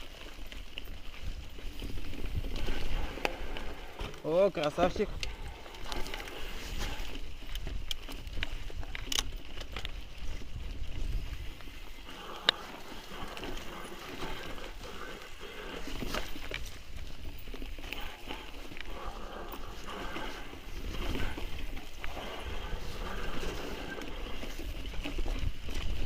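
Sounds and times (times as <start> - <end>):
bike rattling over stony trail: 0.0 - 26.0
wind rumble on microphone: 0.8 - 4.2, 4.8 - 12.4, 16.0 - 26.0.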